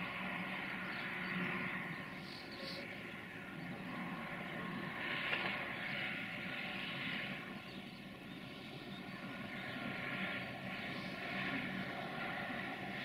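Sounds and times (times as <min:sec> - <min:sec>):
distant freight train rumbling: 0:00.0 - 0:13.0.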